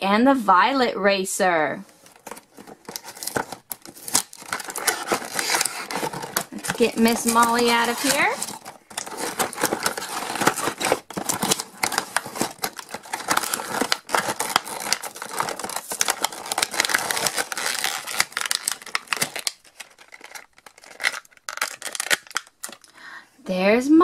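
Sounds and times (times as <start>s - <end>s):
cardboard and plastic bag crinkling: 2.0s - 23.0s.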